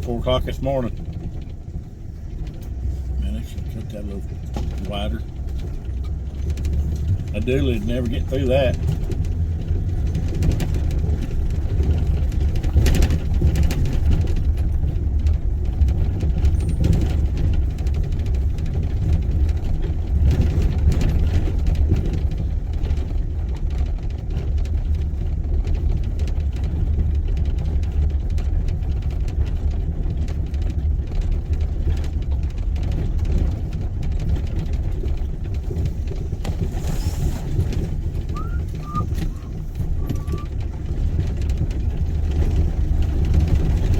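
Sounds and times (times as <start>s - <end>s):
engine and tyre rumble inside car: 0.0s - 43.9s.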